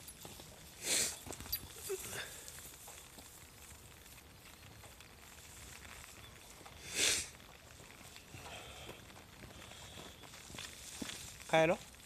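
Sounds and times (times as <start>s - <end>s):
light rain on a wet road: 0.0s - 12.0s.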